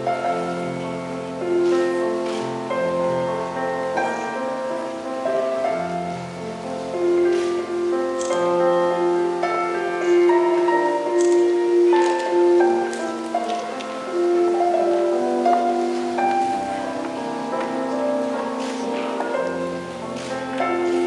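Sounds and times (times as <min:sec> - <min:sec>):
slow classical keyboard music: 0:00.0 - 0:21.0.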